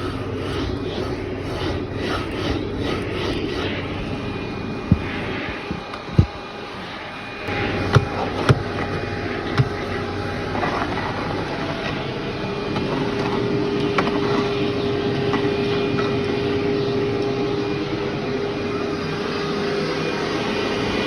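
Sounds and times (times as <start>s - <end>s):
steady hum: 0.0s - 21.0s
vacuum cleaner running: 0.0s - 21.0s.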